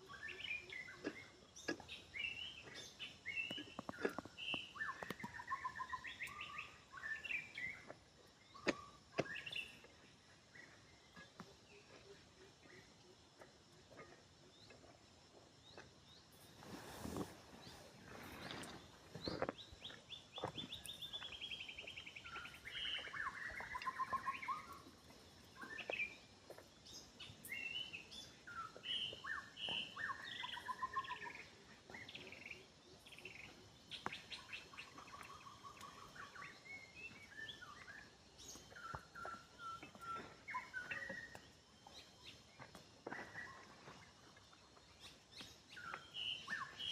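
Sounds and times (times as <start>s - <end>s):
birds singing and calling: 0.0s - 46.9s.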